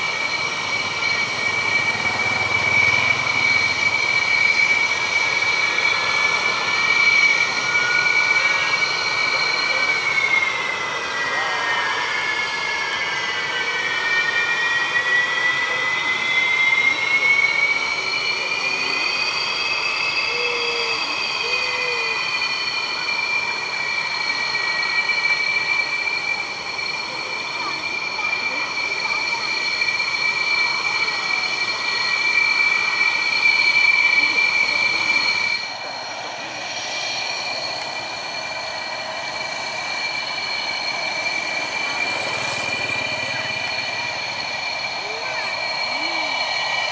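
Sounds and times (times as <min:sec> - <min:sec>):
jet engine whine: 0:00.0 - 0:46.9
jet exhaust rush: 0:00.0 - 0:46.9.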